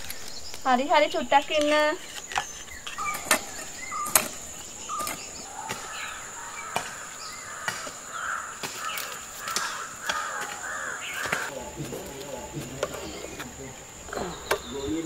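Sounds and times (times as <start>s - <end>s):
high insect drone: 0.0s - 15.0s
crow cawing: 1.8s - 15.0s.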